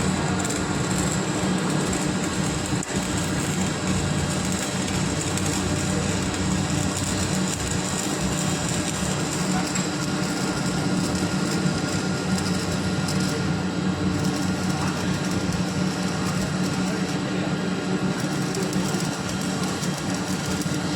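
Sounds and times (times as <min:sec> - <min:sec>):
arc welding crackle: 0:00.0 - 0:20.9.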